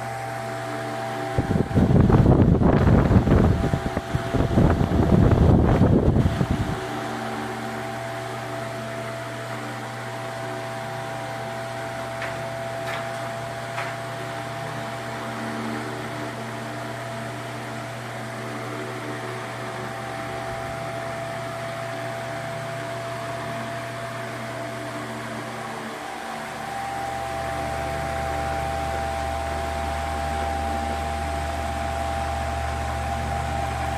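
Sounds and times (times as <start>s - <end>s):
wall fan running: 0.0s - 33.9s.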